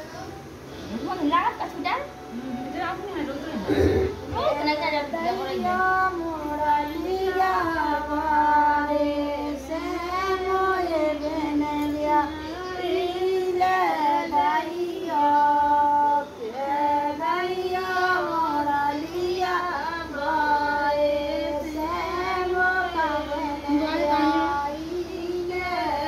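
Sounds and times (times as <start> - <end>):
person singing unaccompanied: 3.6 - 26.0.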